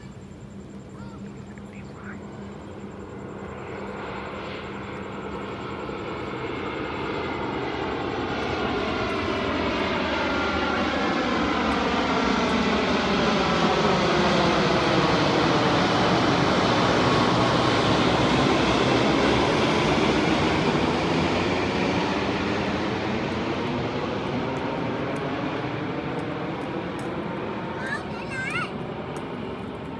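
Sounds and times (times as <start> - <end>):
airliner engines passing overhead: 0.0 - 29.9
engine whine sliding lower: 2.8 - 27.7.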